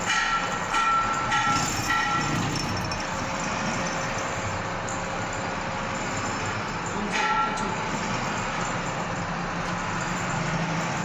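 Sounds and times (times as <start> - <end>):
metal shaper machine running: 0.0 - 11.0.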